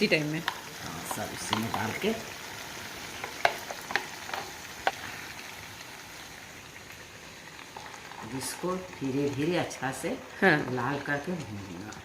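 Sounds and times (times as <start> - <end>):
spice paste sizzling in a pan: 0.0 - 12.0.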